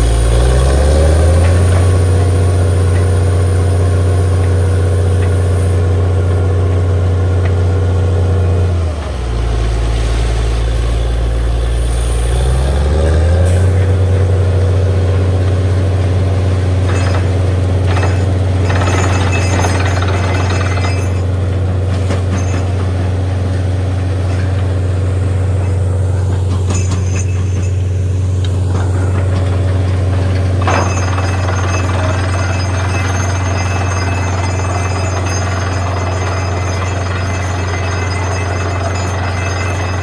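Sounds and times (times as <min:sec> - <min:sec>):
drilling rig engine running: 0:00.0 - 0:40.0.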